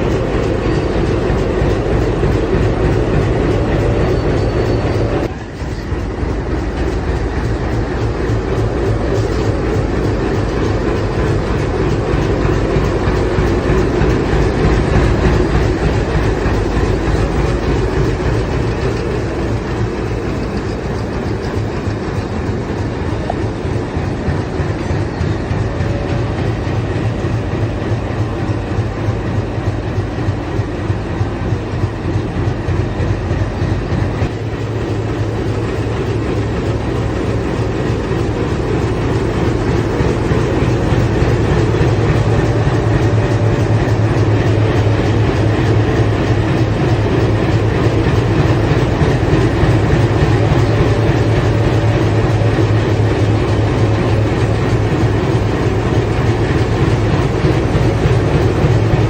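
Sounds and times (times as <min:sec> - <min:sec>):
diesel locomotive engine throbbing: 0:00.0 - 0:59.0.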